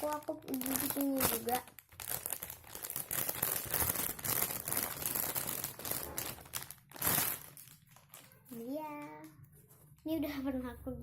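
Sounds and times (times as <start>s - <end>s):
plastic crinkling and rustling: 0.0s - 10.2s.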